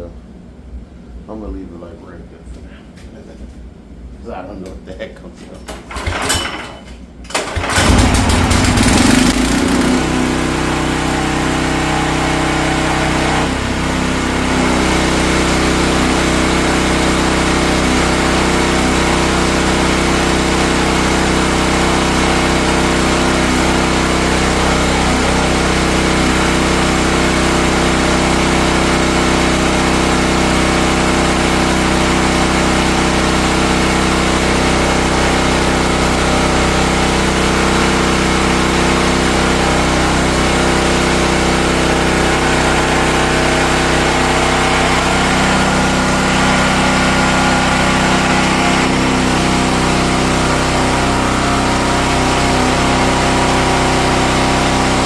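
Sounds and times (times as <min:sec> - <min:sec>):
pressure washer engine running: 0:05.7 - 0:55.0.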